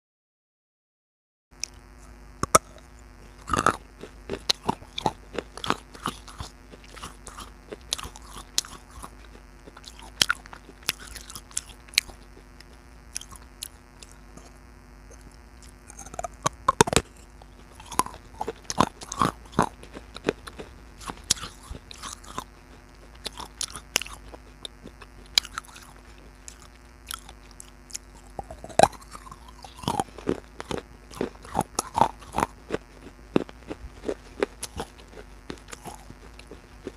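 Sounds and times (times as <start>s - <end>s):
person chewing baked clay: 1.6s - 36.9s.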